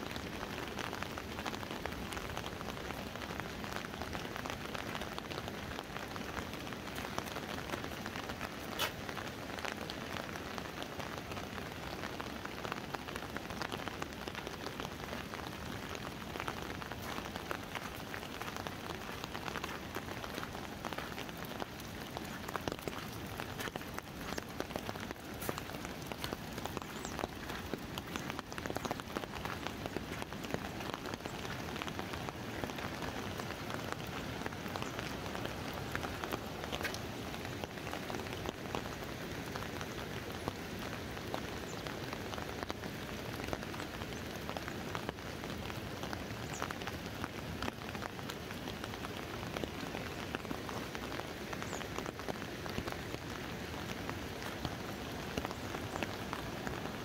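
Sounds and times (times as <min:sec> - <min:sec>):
rain falling on an umbrella: 0:00.0 - 0:57.0.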